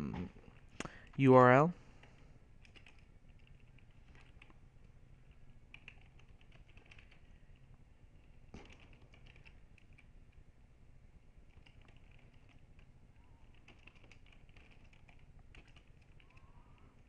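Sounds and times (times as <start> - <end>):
faint keyboard typing: 1.8 - 10.5, 11.2 - 17.0.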